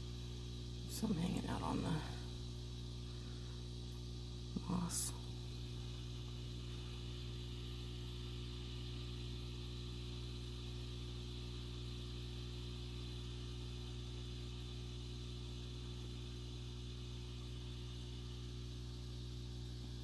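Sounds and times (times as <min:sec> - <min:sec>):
aquarium filter humming: 0:00.0 - 0:20.0.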